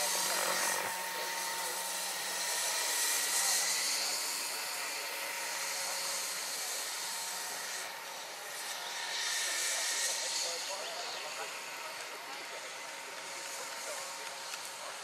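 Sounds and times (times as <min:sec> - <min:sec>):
model helicopter rotor whoosh: 0:00.0 - 0:15.0.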